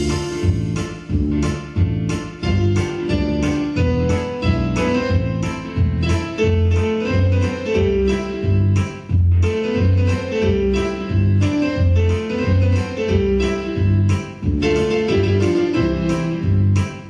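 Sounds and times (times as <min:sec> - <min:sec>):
instrumental keyboard music with beat: 0:00.0 - 0:17.0.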